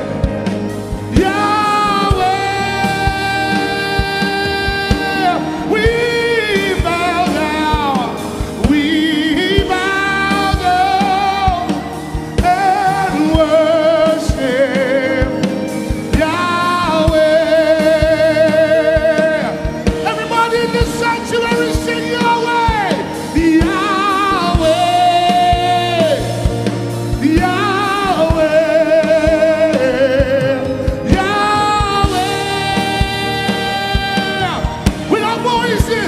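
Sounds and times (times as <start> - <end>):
band playing: 0.0 - 36.0
person singing with vibrato: 0.0 - 36.0.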